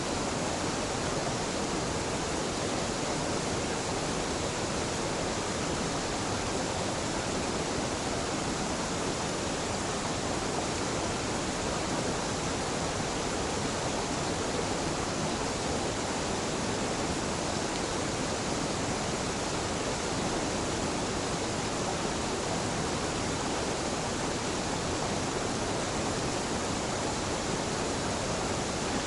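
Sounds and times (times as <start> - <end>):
waterfall rushing and splashing: 0.0 - 29.0.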